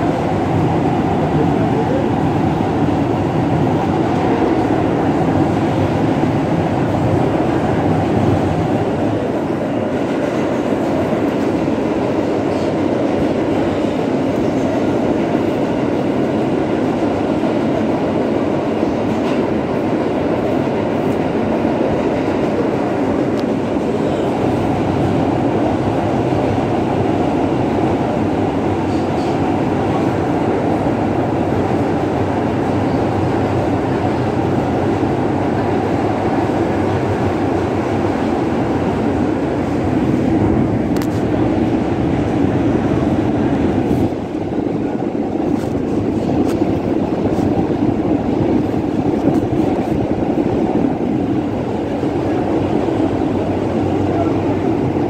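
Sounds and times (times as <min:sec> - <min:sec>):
subway wheels rumbling on rails: 0:00.0 - 0:55.0.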